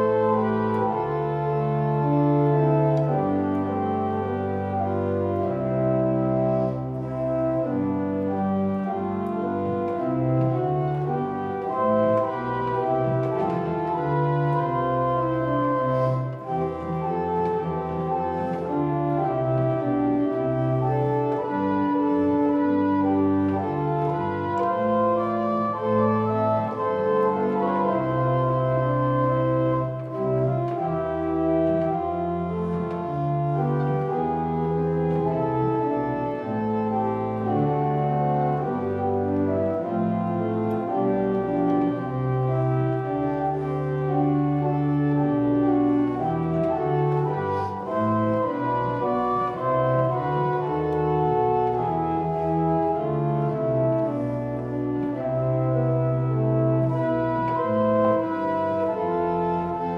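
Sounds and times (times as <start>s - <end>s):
pipe organ playing chords: 0.0s - 59.9s.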